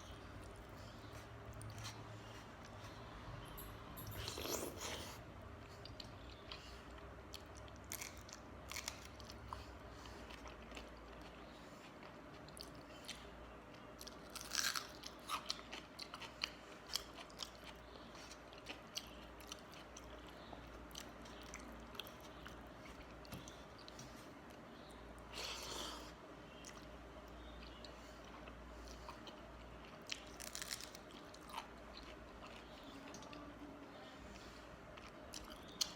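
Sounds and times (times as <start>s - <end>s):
chewing and wet mouth sounds: 0.0s - 35.9s.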